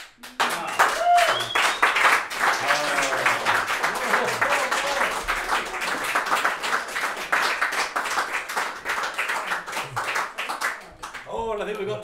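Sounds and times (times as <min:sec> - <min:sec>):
audience clapping: 0:00.0 - 0:12.0.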